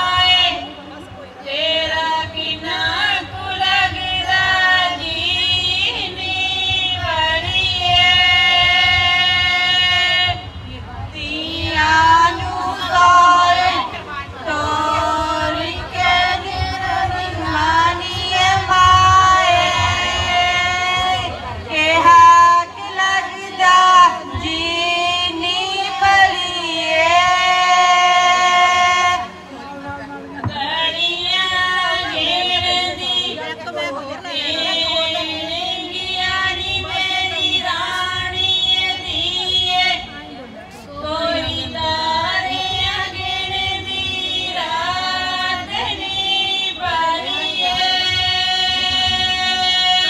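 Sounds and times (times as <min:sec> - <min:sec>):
woman singing folk song: 0:01.4 - 0:50.0.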